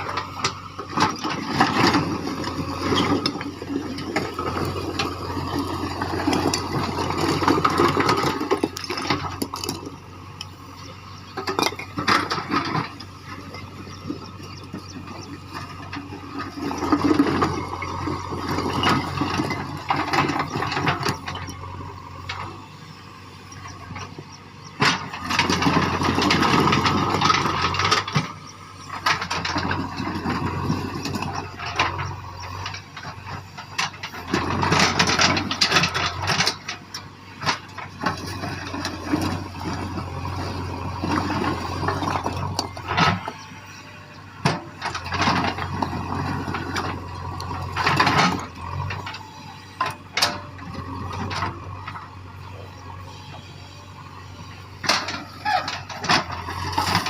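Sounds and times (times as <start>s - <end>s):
diesel engine surging under load: 0.0s - 57.0s.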